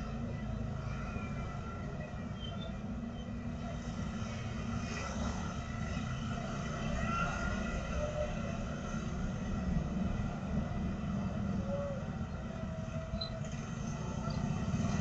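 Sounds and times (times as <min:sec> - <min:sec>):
scooter engines passing: 0:02.9 - 0:15.0.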